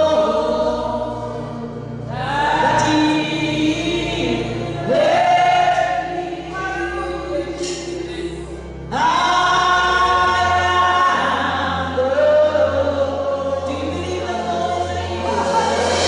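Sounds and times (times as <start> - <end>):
group singing gospel: 0.0 - 16.0.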